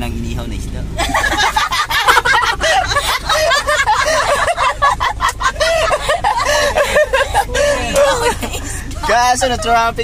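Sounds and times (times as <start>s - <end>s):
car cabin rumble: 0.0s - 10.0s
man and woman laughing: 1.0s - 10.0s.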